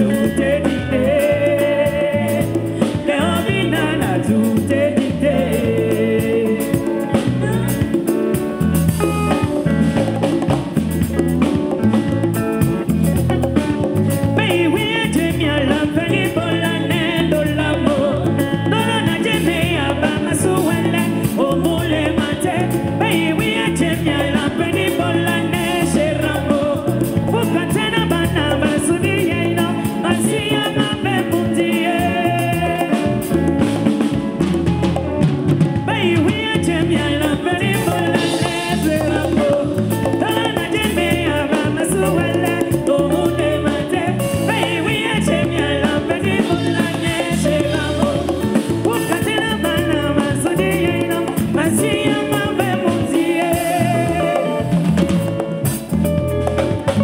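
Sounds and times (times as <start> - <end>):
woman singing into microphone: 0.0 - 8.6, 14.3 - 33.7, 35.7 - 54.8
live band playing dance song: 0.0 - 57.0.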